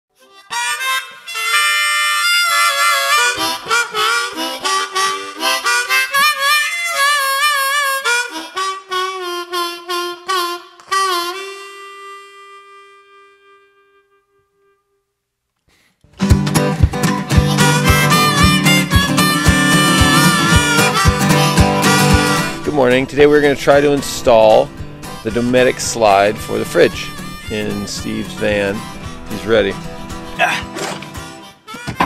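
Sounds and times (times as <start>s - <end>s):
blues harmonica: 0.1s - 32.0s.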